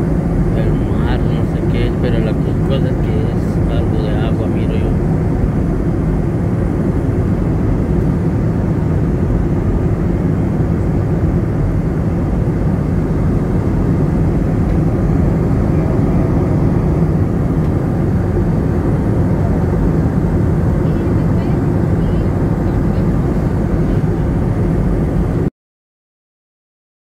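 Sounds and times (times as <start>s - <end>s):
airliner cabin engine roar: 0.0s - 25.5s.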